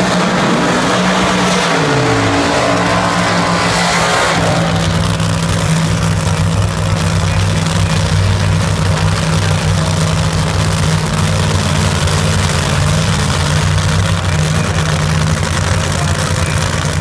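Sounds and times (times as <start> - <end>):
drag car engine idling loudly: 0.0 - 17.0.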